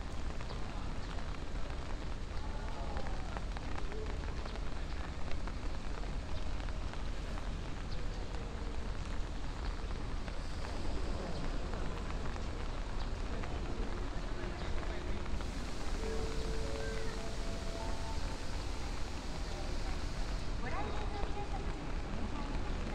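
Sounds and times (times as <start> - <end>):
rain falling on a pool: 0.0 - 22.9.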